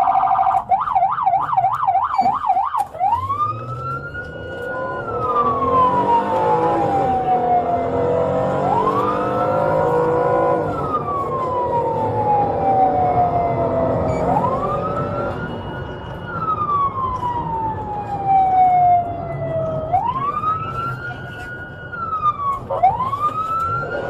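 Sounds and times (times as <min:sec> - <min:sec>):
engine and road rumble: 0:00.0 - 0:24.0
police siren wailing: 0:00.0 - 0:24.0.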